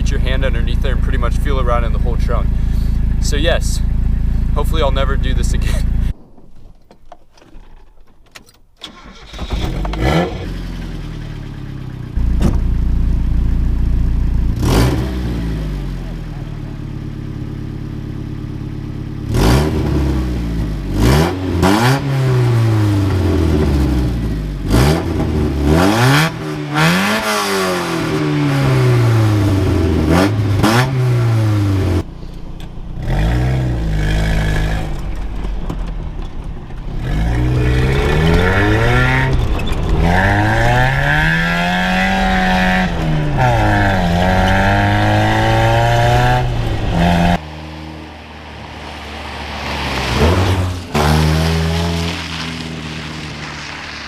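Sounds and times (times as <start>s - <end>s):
car engine revving: 8.8s - 54.0s.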